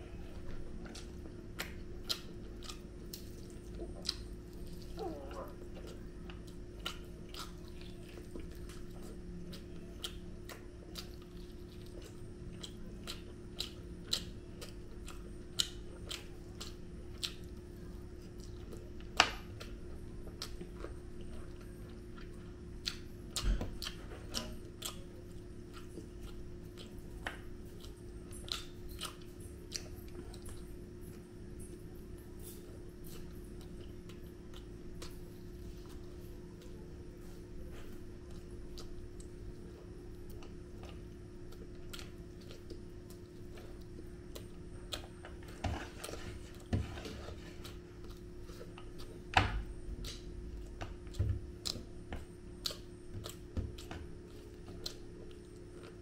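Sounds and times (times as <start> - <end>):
man chewing food: 0.0 - 56.0
steady low hum: 0.0 - 56.0.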